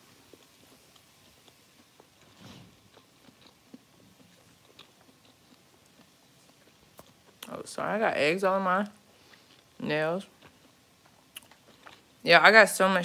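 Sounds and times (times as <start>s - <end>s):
person chewing food: 0.0s - 7.6s, 9.0s - 12.2s.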